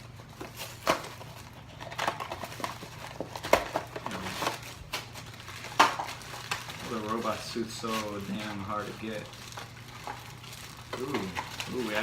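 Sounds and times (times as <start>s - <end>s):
packaging being torn open: 0.4s - 12.0s.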